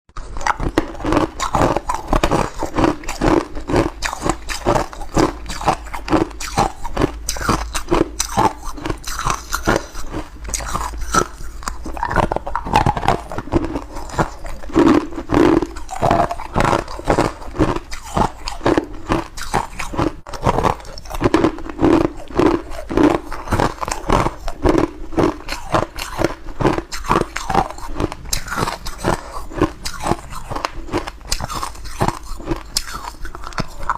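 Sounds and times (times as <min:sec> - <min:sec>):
ice cubes being crunched: 0:00.3 - 0:33.9.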